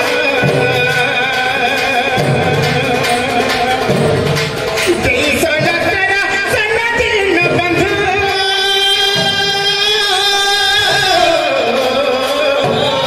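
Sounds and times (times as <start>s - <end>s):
accompanying instruments: 0.0s - 13.0s
barrel drum beaten: 0.0s - 13.0s
person singing into a microphone: 0.0s - 13.0s.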